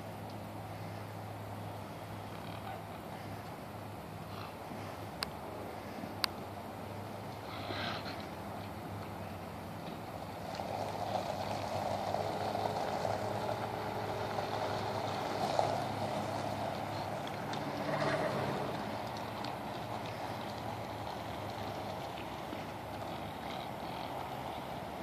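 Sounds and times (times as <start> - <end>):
suv engine running: 0.0 - 25.0
tyres on gravel: 1.8 - 25.0.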